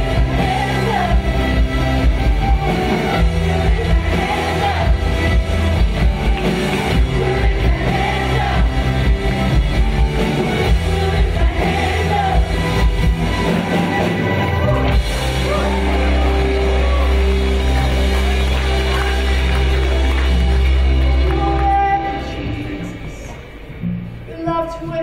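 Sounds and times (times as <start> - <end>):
drums beating: 0.0 - 21.6
worship band playing: 0.0 - 23.8.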